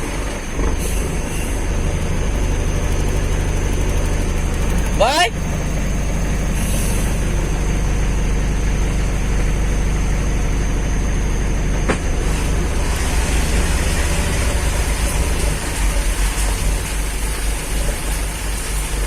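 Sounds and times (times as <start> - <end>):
heavy vehicle engine rumbling: 0.0 - 19.0.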